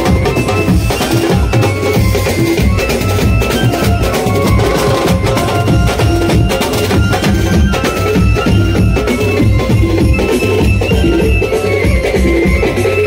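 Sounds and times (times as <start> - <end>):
fast dense drumming: 0.0 - 13.0
street band playing: 0.0 - 13.0.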